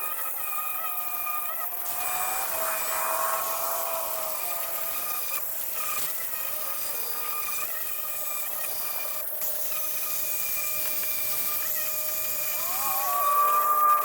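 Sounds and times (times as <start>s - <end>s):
pressure washer pump whine: 1.7s - 14.0s.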